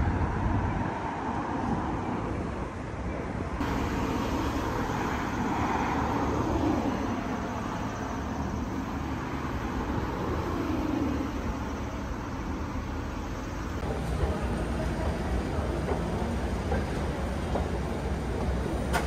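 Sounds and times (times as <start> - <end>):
city street traffic rumble: 0.0 - 19.0.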